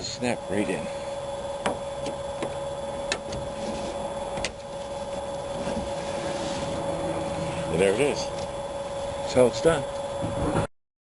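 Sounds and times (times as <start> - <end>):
steady background hum: 0.0 - 10.7.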